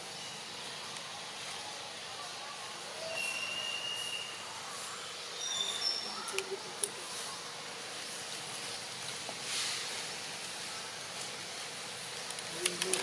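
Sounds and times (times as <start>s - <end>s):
steady hiss of background noise: 0.0s - 13.0s.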